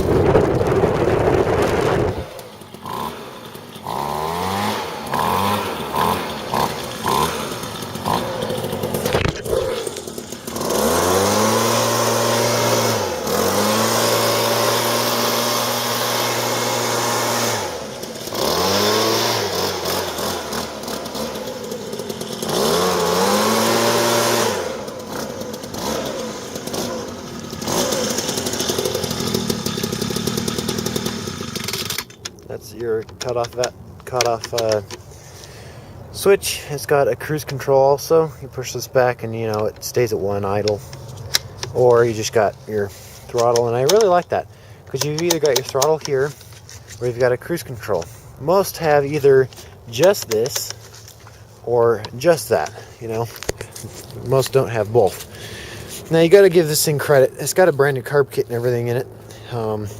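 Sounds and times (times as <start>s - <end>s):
leaf blower engine revving: 0.0s - 59.9s.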